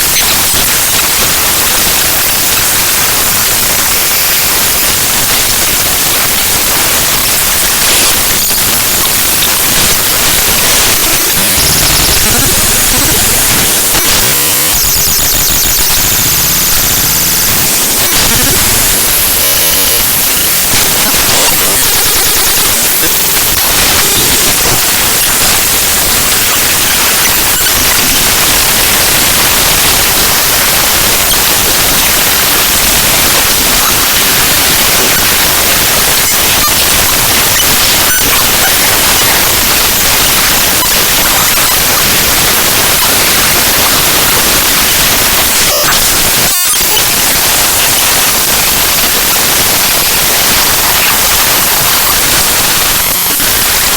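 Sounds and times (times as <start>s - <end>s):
harsh crackling static: 0.0s - 53.9s.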